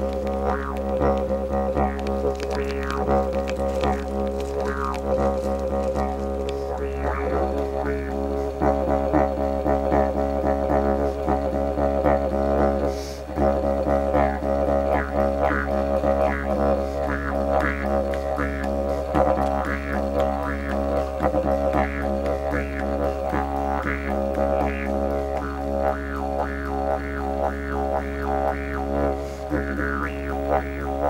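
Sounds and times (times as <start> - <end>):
didgeridoo drone: 0.0 - 31.0.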